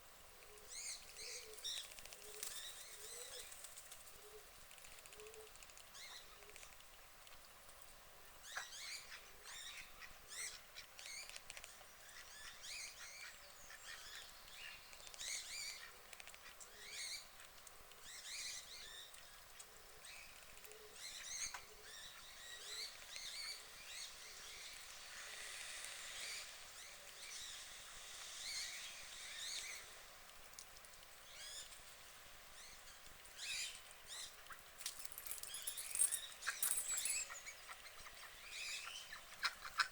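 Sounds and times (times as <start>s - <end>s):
birds chirping and twittering: 0.6s - 30.1s, 30.9s - 39.9s.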